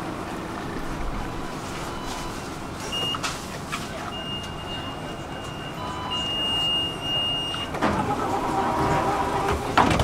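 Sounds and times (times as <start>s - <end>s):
platform hum and clatter: 0.0s - 10.0s
tram door warning beeps: 1.2s - 9.6s.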